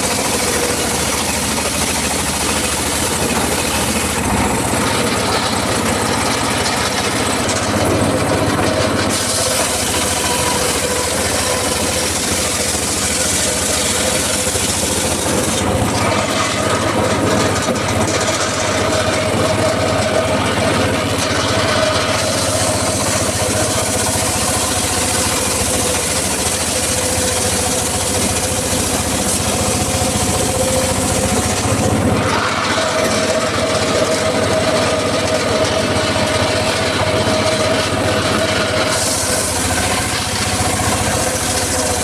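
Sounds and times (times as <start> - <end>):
sawmill motor and blade drone: 0.0 - 42.0.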